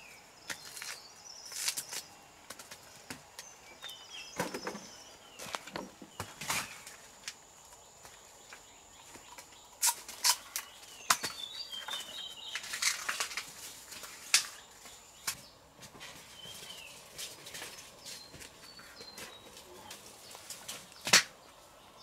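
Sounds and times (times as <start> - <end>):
sharp snaps and rustles: 0.4 - 7.8, 8.5 - 21.6.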